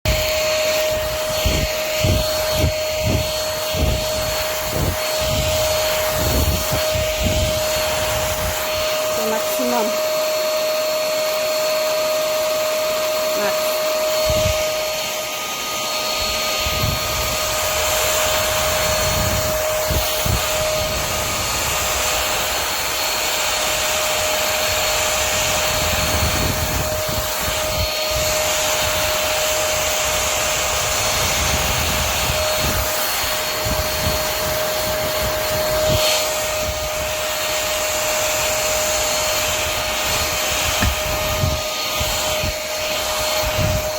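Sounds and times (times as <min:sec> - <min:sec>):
stick vacuum running: 0:00.0 - 0:43.9.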